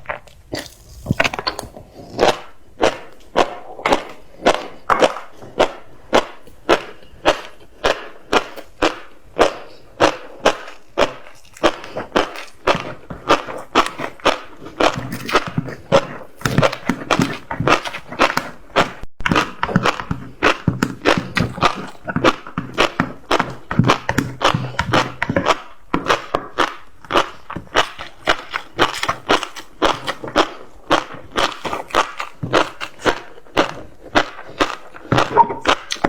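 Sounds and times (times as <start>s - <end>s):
close-up chewing of crunchy roe: 0.0s - 36.0s.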